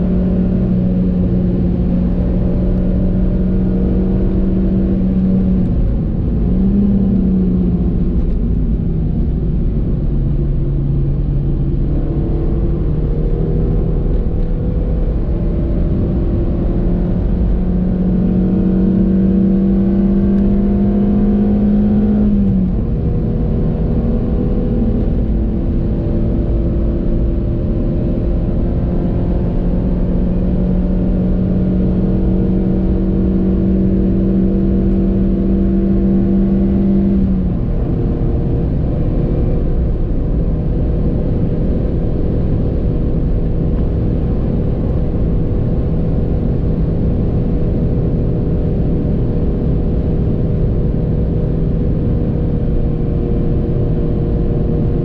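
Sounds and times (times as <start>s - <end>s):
car engine revving: 0.0s - 55.0s
road and tyre rumble: 0.0s - 55.0s.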